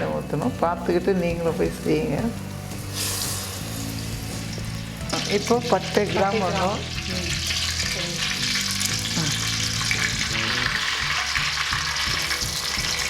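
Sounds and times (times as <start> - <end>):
spices sizzling in hot oil: 0.7 - 13.0.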